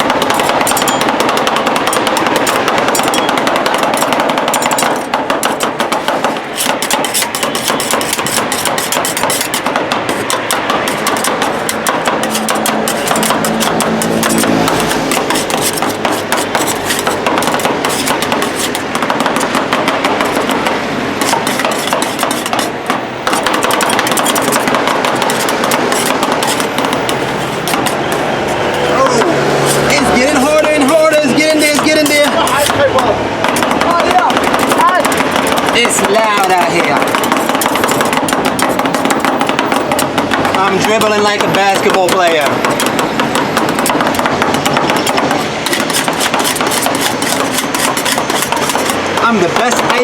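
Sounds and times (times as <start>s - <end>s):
metal spatulas chopping on steel: 0.0s - 50.0s.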